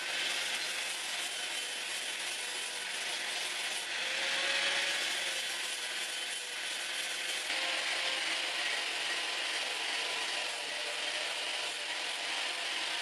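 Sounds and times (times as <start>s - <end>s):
grinder disc sanding wood: 0.0s - 13.0s.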